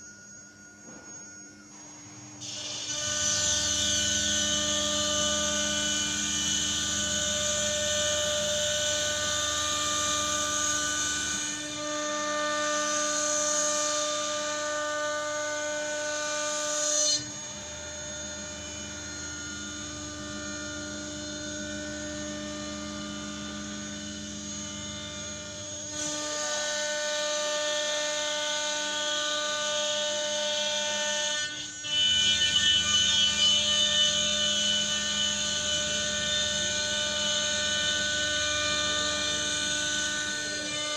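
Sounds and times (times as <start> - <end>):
cutting machine whine: 0.0 - 40.9.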